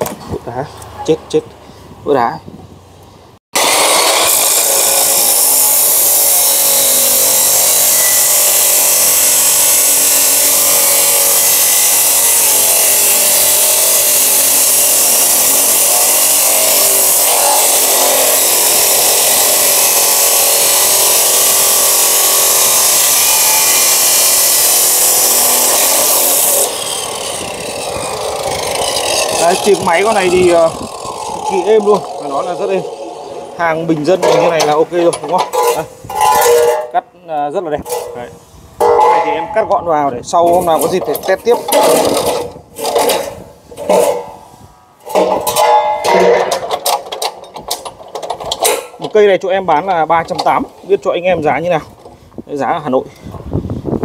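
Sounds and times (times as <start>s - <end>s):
cut-off saw grinding steel: 3.6s - 37.0s, 37.8s - 39.7s, 40.5s - 51.7s.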